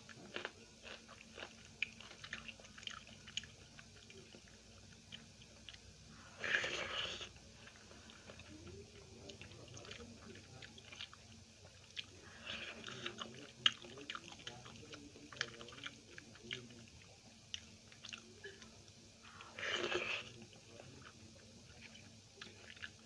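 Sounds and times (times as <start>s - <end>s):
person chewing wetly: 0.0s - 23.0s.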